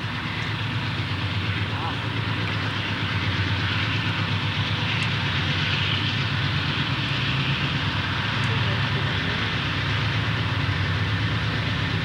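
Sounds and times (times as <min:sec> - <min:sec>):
diesel locomotive engines droning: 0:00.0 - 0:12.0.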